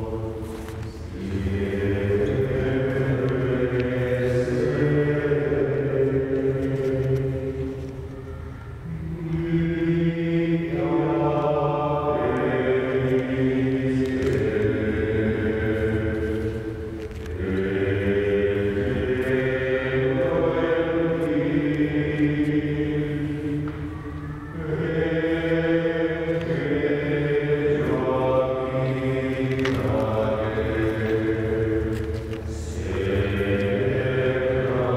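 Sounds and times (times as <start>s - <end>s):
voices singing a chant: 0.0s - 34.9s.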